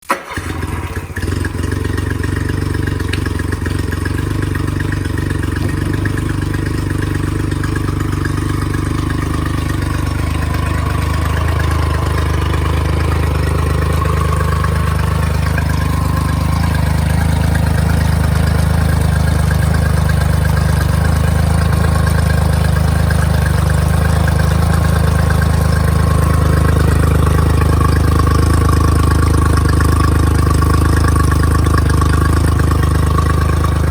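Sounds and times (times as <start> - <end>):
outboard motor idling: 0.0 - 33.9.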